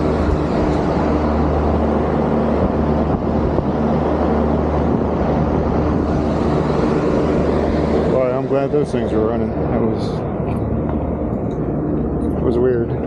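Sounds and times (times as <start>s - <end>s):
fans blowing air: 0.0s - 13.0s
low compressor hum: 0.0s - 13.0s.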